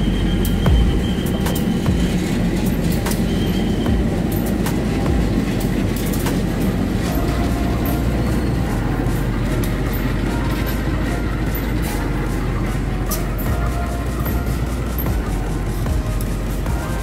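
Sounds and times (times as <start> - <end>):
locomotive engine rumble: 0.0 - 17.0
wheel squeal: 0.0 - 17.0
wheels clicking over rail joints: 0.0 - 17.0.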